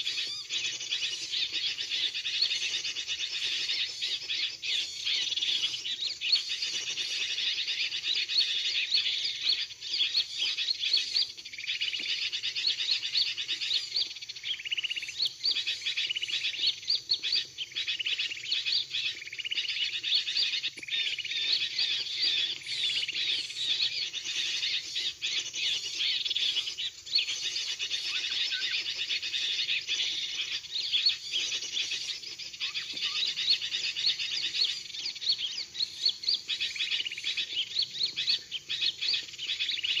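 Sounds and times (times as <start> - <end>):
small birds chirping and trilling: 0.0 - 40.0.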